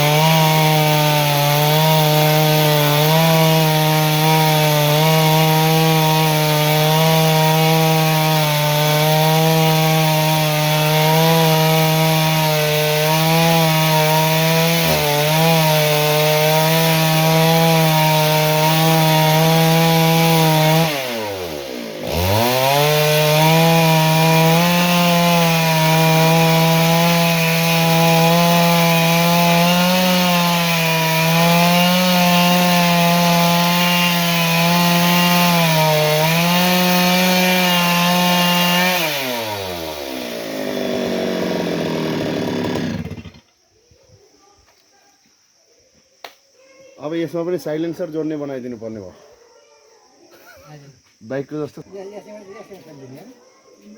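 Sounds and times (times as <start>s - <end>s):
chainsaw running at high revs: 0.0s - 43.4s.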